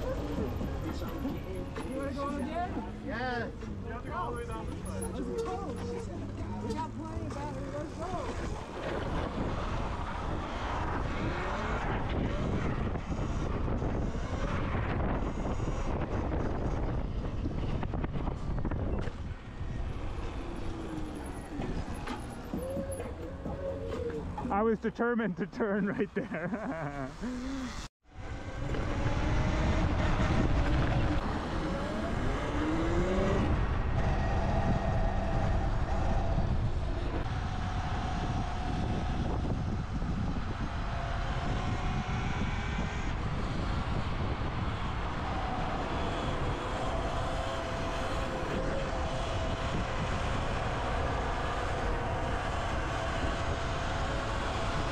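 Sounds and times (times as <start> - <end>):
vehicle motor whine: 0.0 - 24.6, 26.6 - 54.9
road noise: 0.0 - 54.9
wind buffeting microphone: 5.3 - 24.5, 28.3 - 54.9.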